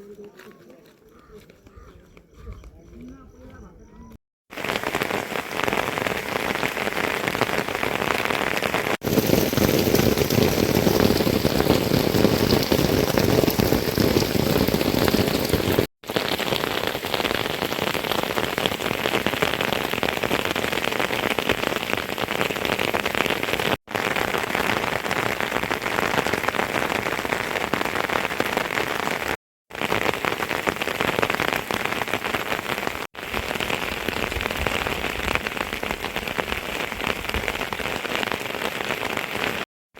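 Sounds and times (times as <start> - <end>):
heavy rain pouring: 4.5 - 39.7.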